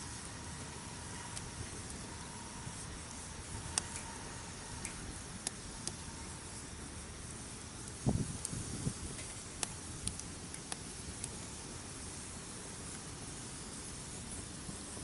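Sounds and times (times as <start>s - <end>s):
campfire crackling and popping: 0.0s - 15.0s
low hiss of fire: 0.0s - 15.0s.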